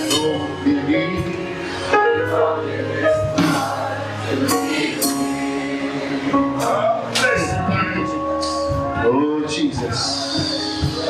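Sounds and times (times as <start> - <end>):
instrumental accompaniment: 0.0 - 11.0
voices singing gospel song: 0.0 - 11.0.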